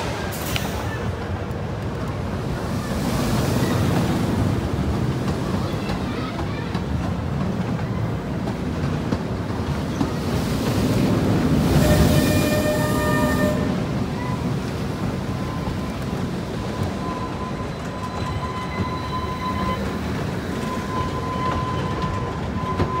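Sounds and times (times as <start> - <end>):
roller coaster rumbling on track: 0.0 - 23.0.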